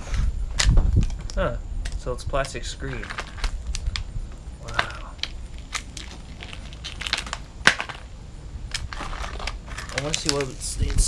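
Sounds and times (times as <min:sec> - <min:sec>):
plastic crackling and snapping: 0:00.6 - 0:08.1, 0:08.7 - 0:11.0.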